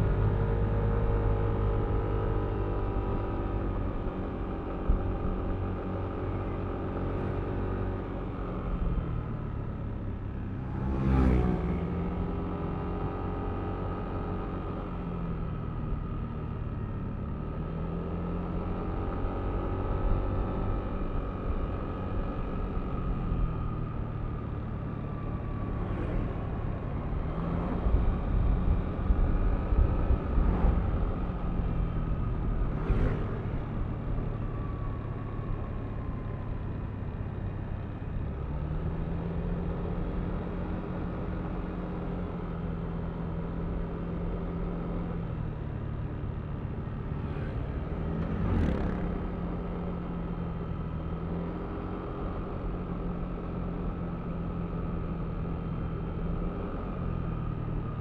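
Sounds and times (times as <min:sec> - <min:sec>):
scooter engine hum and whine: 0:00.0 - 0:58.0
wind and road rumble: 0:00.0 - 0:58.0.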